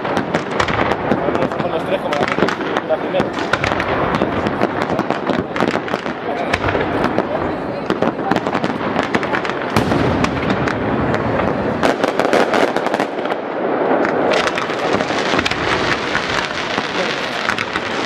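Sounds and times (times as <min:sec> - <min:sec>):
fireworks crackle: 0:00.0 - 0:18.0
fireworks cracks and pops: 0:00.0 - 0:18.0.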